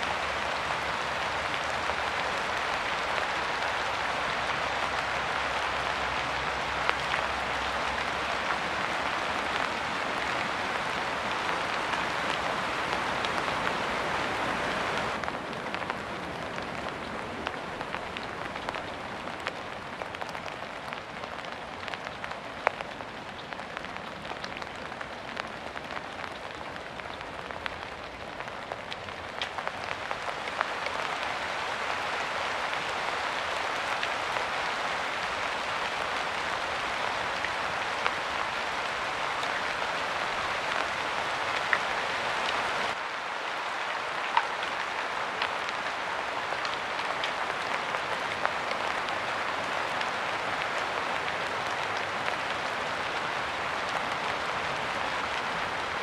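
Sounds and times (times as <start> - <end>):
rain falling: 0.0 - 56.0
raindrops ticking: 0.0 - 56.0.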